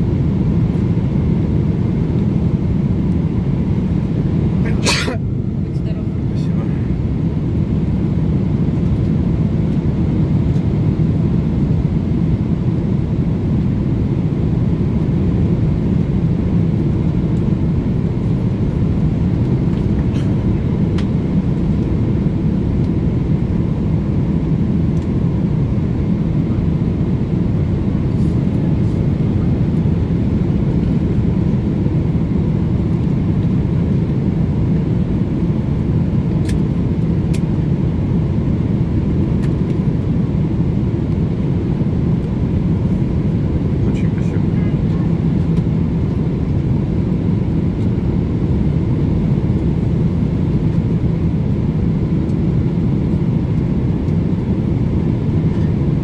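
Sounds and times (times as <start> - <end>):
airliner engines droning: 0.0 - 56.0.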